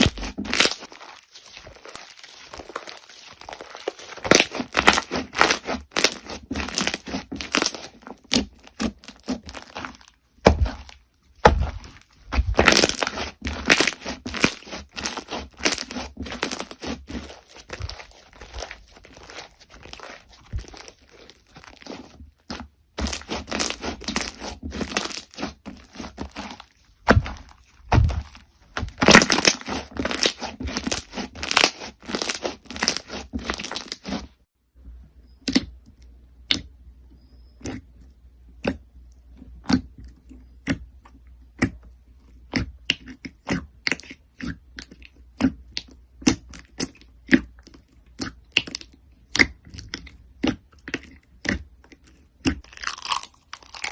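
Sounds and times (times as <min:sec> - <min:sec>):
crunchy slime crackling: 0:00.0 - 0:34.5, 0:39.6 - 0:53.9.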